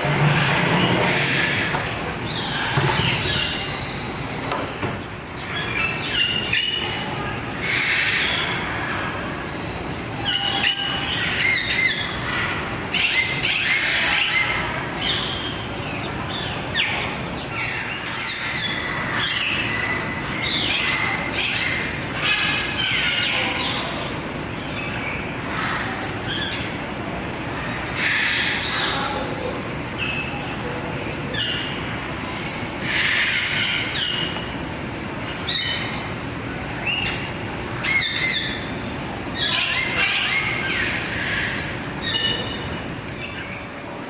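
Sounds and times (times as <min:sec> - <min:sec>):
birds chirping and calling: 0:00.0 - 0:44.0.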